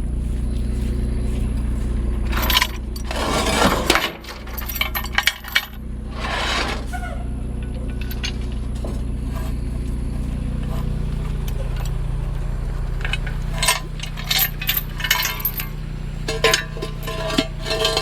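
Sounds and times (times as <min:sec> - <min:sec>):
vehicle engine idling: 0:00.0 - 0:18.0
metallic clinks and rattles: 0:00.2 - 0:06.9, 0:07.6 - 0:18.0.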